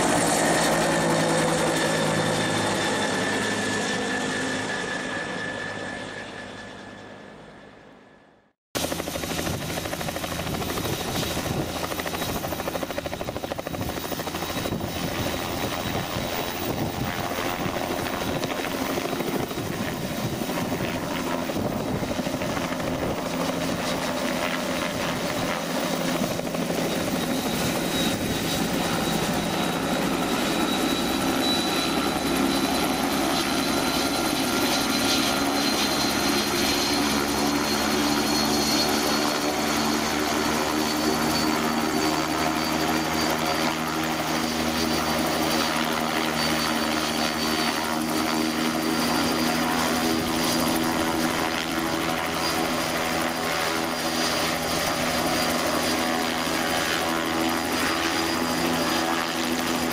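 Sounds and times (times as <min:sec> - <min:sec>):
helicopter rotor hum: 0:00.0 - 0:08.2, 0:08.8 - 0:59.9.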